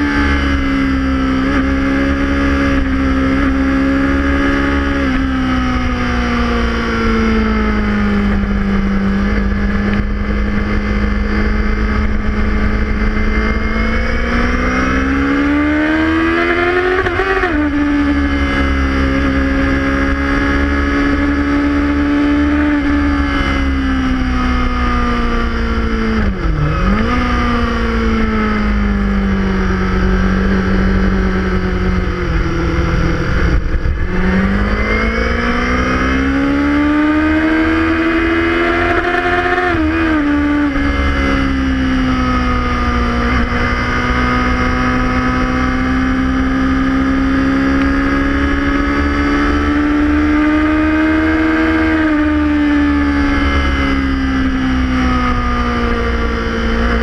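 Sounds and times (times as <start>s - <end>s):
motorcycle engine revving: 0.0s - 57.0s
wind rumble on microphone: 0.0s - 57.0s.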